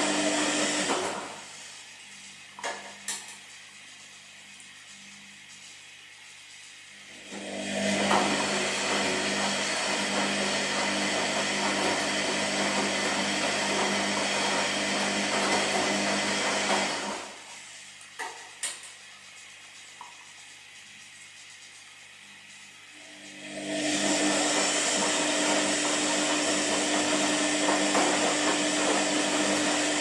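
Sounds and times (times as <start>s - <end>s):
washing machine whirring: 0.0s - 30.0s.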